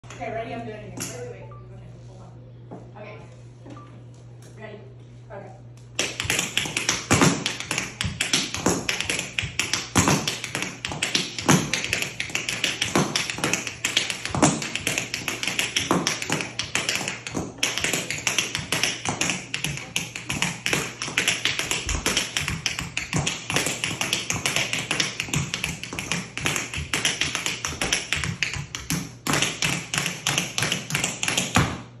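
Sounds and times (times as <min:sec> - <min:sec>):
tap shoes on wooden floor: 0:06.0 - 0:31.8.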